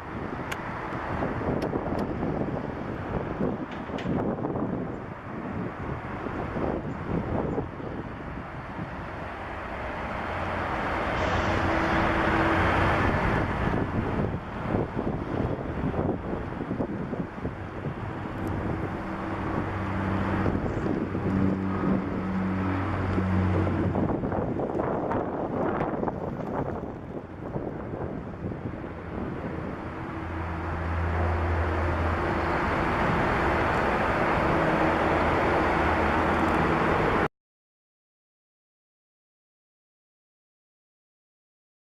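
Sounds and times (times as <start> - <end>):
jet airliner engines rushing: 0.0 - 37.3
wind buffeting microphone: 0.0 - 37.3.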